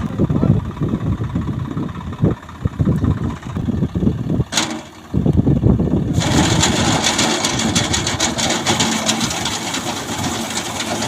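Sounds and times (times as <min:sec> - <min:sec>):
harvester engine rumbling: 0:00.0 - 0:11.0.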